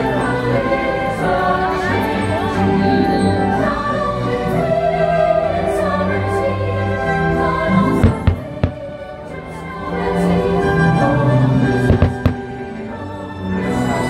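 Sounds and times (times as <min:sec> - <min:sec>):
choir singing: 0:00.0 - 0:14.0
orchestra playing slow music: 0:00.0 - 0:14.0.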